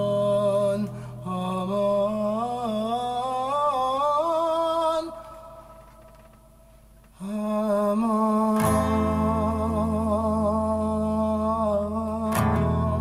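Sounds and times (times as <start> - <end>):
man singing wordless melody: 0.0 - 6.5, 7.1 - 13.0
acoustic guitar: 0.0 - 13.0.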